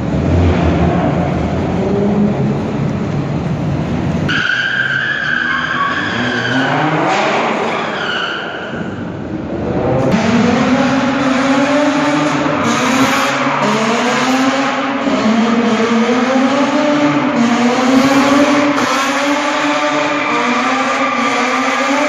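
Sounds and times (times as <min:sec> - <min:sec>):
engines revving: 0:00.0 - 0:04.3, 0:05.4 - 0:22.0
tires squealing: 0:04.1 - 0:22.0.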